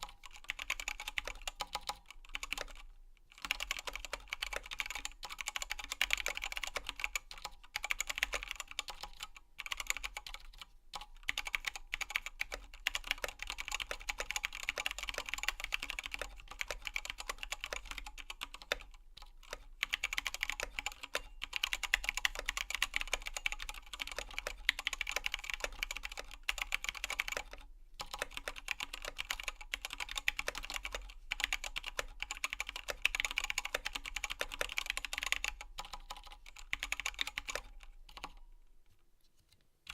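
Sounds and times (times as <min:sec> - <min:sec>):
mechanical keyboard typing: 0:00.0 - 0:38.4.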